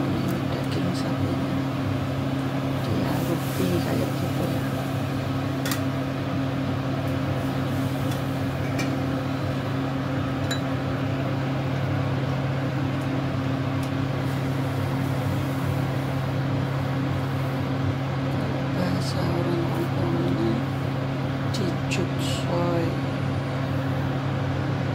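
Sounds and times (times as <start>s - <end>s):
kitchen motor humming: 0.0s - 24.9s.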